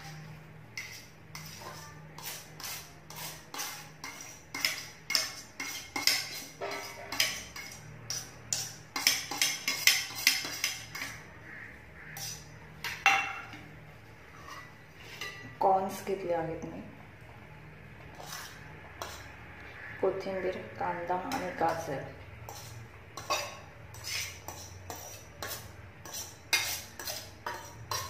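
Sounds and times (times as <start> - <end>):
metal spoon scraping on plates: 0.0 - 16.0, 18.0 - 28.0.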